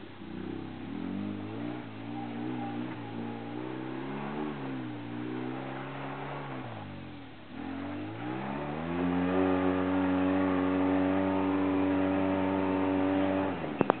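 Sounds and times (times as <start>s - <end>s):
car engine revving under load: 0.0s - 14.0s.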